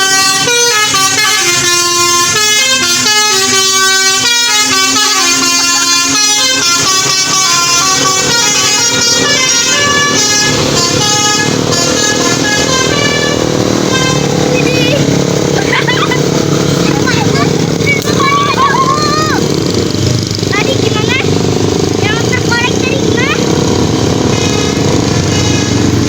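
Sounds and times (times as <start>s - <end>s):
bus horn playing a melody: 0.0s - 17.9s, 23.0s - 26.0s
rough rumble: 0.4s - 26.0s.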